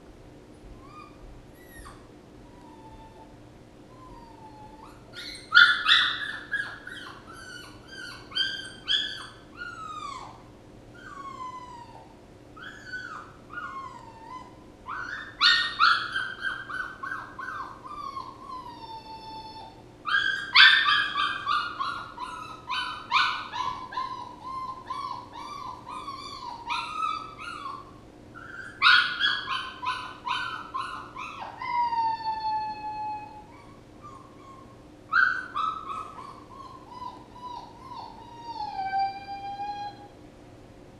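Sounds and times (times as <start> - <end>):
puppy whining: 0.7 - 40.2.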